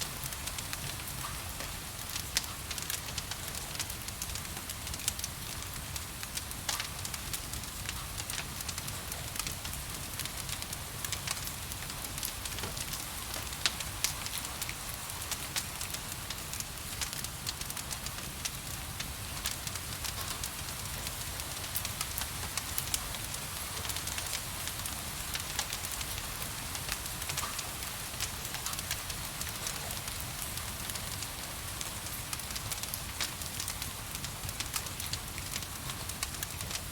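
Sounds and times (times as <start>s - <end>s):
gentle rain hissing: 0.0s - 36.9s
wood fire crackling and popping: 0.0s - 36.9s.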